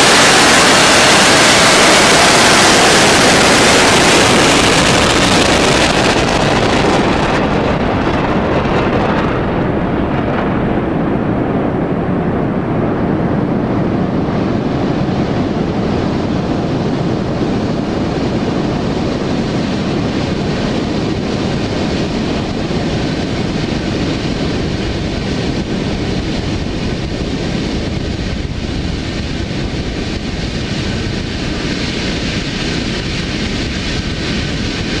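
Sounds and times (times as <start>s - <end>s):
rocket engines roaring: 0.0s - 35.0s.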